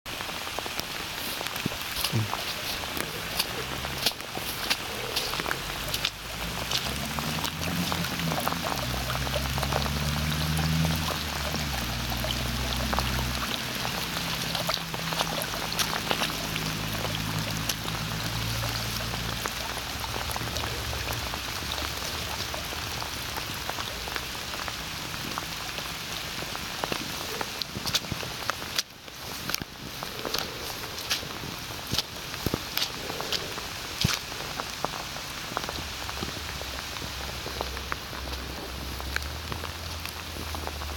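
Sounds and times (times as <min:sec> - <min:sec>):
heavy rain: 0:00.1 - 0:40.9.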